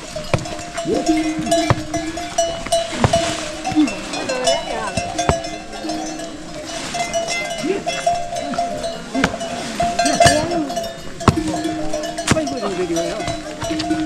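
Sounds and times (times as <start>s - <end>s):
livestock bells clanking: 0.0s - 14.0s.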